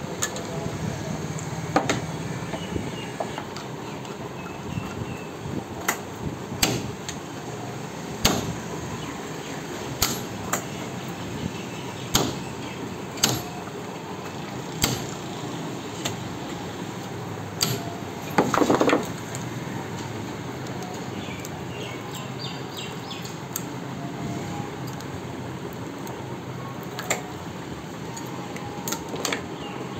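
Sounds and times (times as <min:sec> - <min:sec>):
steady background noise: 0:00.0 - 0:29.9.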